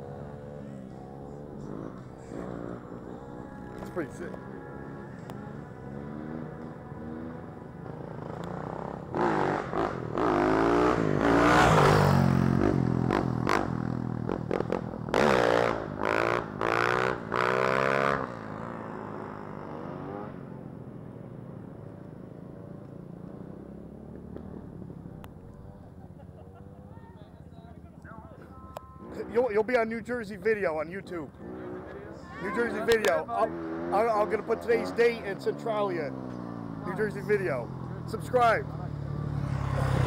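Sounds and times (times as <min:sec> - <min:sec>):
off-road engine accelerating: 0:00.0 - 0:40.0.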